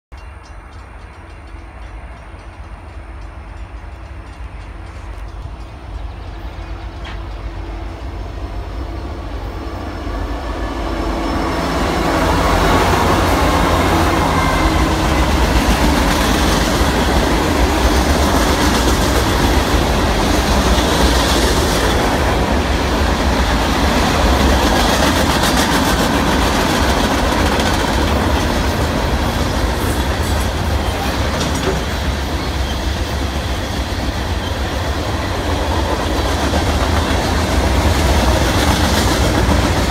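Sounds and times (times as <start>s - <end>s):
freight train passing: 0.1s - 39.9s.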